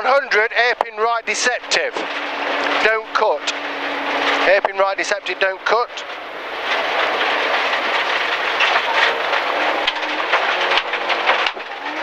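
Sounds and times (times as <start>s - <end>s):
car engine: 0.0s - 12.0s
gravel rattling against car underbody: 0.0s - 12.0s.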